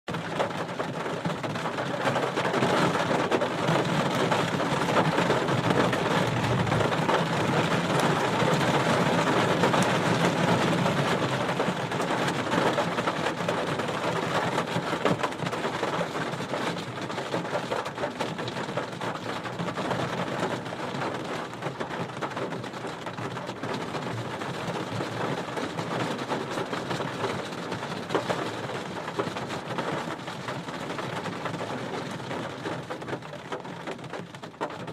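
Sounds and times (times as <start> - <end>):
heavy rain on car roof: 0.1 - 34.9.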